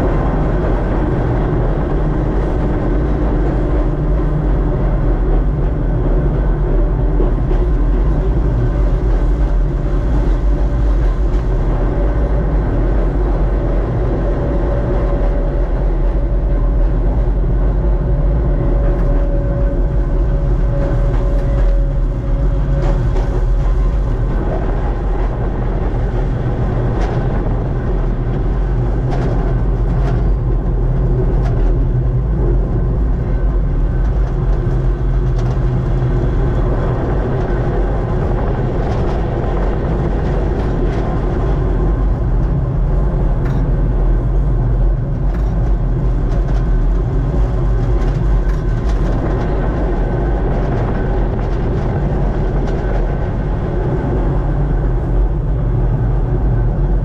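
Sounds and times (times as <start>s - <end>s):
train motors and wheels rumbling: 0.0s - 57.0s.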